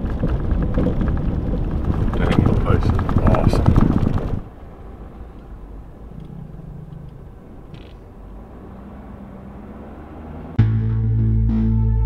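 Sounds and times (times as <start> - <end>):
vehicle rumble from inside cab: 0.0 - 10.6.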